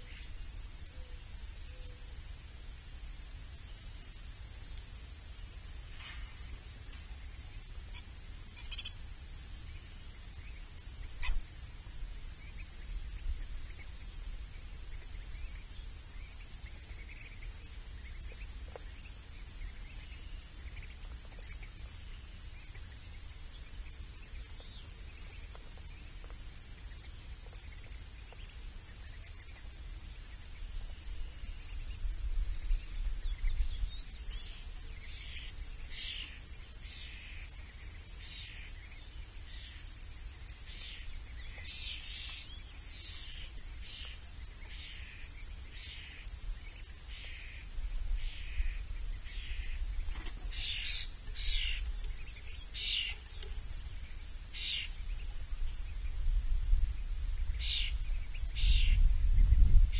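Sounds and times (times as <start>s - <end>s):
steady low rumble: 0.0s - 59.9s
small birds chirping: 3.5s - 59.9s.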